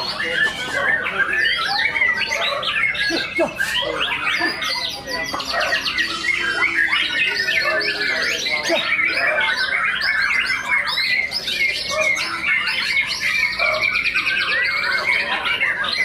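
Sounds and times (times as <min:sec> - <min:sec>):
birds singing whistles and chatter: 0:00.0 - 0:16.0
fast bird trill: 0:00.0 - 0:16.0.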